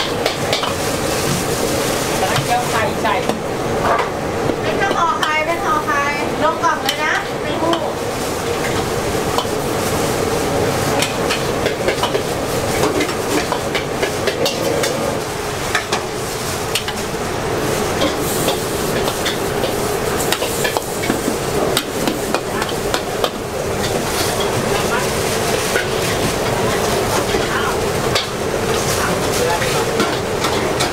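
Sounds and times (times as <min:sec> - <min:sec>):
frying sizzle: 0:00.0 - 0:30.9.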